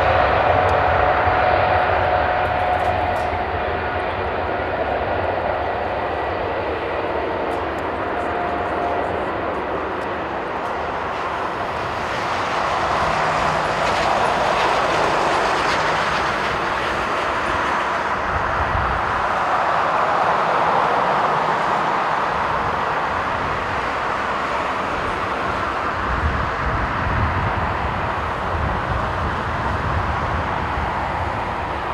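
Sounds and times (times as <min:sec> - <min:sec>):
jet engine roar: 0:00.0 - 0:31.9.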